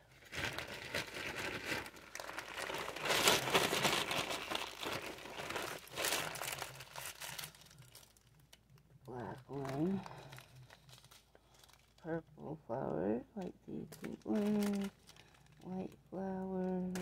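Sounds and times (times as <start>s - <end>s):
plastic packaging crinkling: 0.0s - 12.1s, 13.4s - 17.0s.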